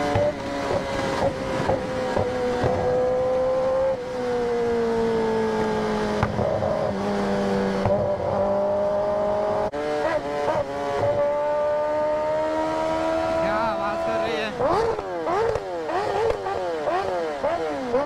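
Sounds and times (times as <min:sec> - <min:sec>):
motorcycle engine revving: 0:00.0 - 0:18.0
wind and road noise: 0:00.0 - 0:18.0.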